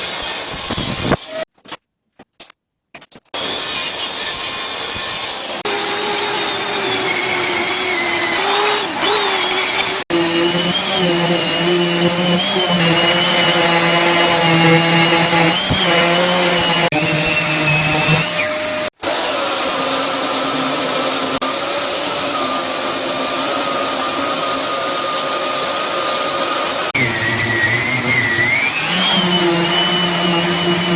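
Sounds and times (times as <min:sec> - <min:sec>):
power tool motor whine: 0:03.4 - 0:30.9.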